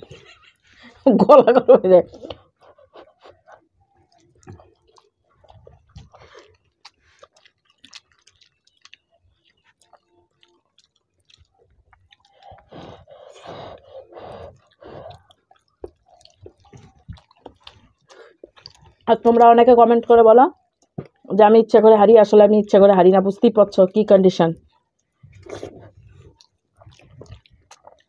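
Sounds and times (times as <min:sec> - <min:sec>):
people chewing food: 0:00.0 - 0:21.3, 0:24.6 - 0:28.0.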